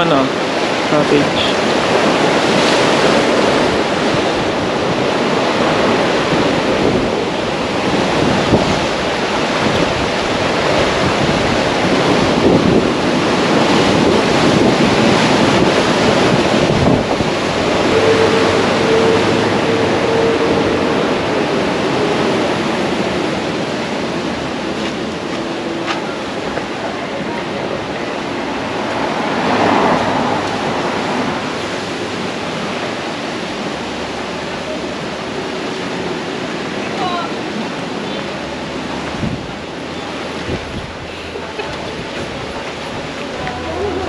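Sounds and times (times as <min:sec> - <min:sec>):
surf breaking on shore: 0:00.0 - 0:44.0
wind buffeting microphone: 0:00.3 - 0:44.0.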